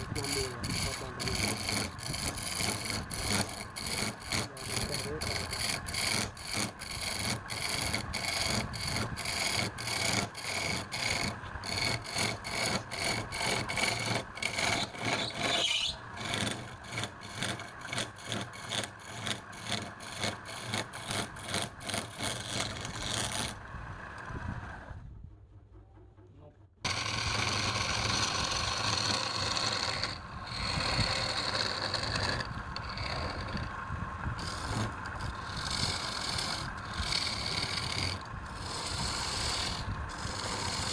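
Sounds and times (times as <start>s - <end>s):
hand tool rasping wood: 0.0s - 23.7s, 26.9s - 40.9s
rough scraping: 0.0s - 24.9s, 26.8s - 40.9s.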